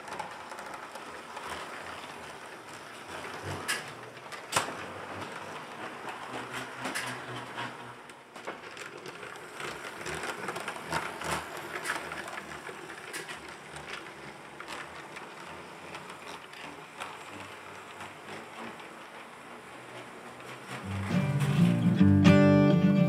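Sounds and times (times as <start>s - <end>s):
wheels clicking over rail joints: 0.0s - 22.0s
model train rolling and rattling: 0.0s - 22.2s.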